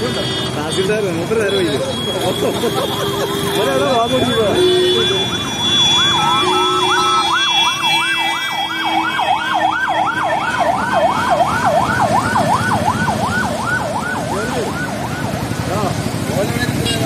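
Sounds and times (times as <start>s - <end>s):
vehicle engines and road noise: 0.0s - 17.0s
sirens yelping: 1.3s - 16.4s.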